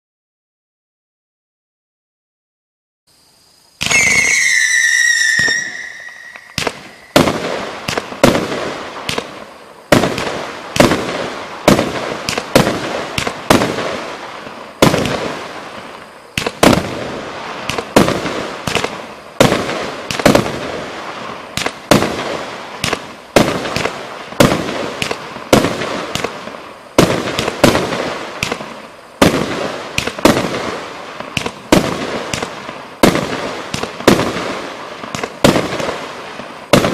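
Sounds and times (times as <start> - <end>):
firework bangs: 3.8 - 36.9
firework whistling shot: 3.8 - 36.9.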